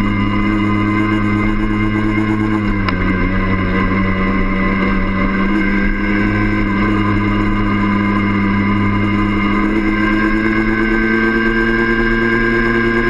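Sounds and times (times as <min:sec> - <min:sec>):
small two-stroke engine running: 0:00.0 - 0:13.0.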